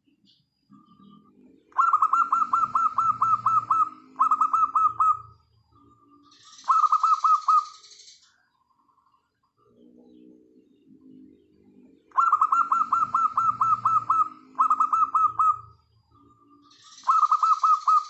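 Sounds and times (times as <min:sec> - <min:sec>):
dove cooing: 0:00.7 - 0:07.7, 0:09.7 - 0:18.0.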